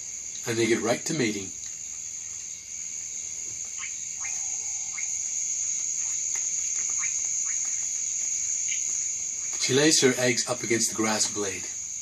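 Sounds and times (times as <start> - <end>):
frogs chirping: 0.0 - 12.0
high-pitched insect drone: 0.0 - 12.0.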